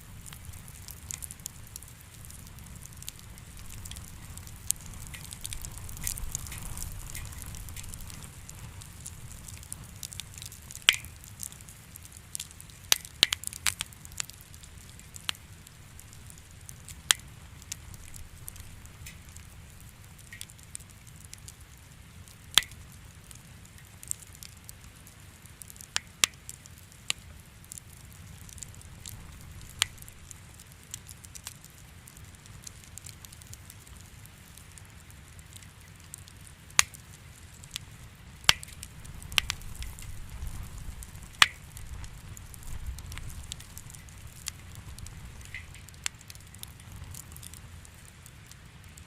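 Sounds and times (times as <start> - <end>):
fire crackling and popping: 0.0 - 49.0
low rumble of fire: 0.0 - 49.0.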